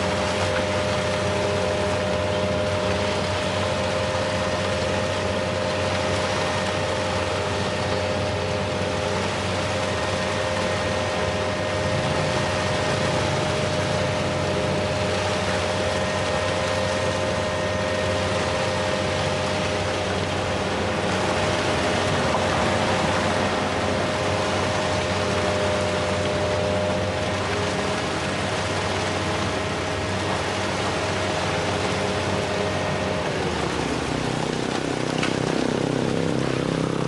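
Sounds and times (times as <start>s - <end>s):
heavy machinery engine: 0.0s - 37.0s
high whine: 0.0s - 37.0s.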